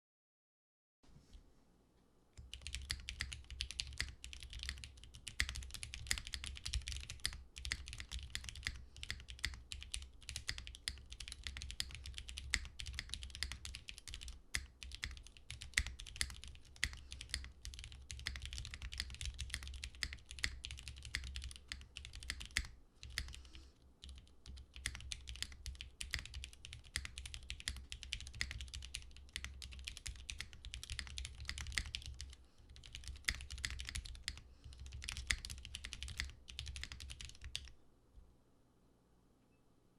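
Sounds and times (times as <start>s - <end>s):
mechanical keyboard typing: 2.4s - 37.7s.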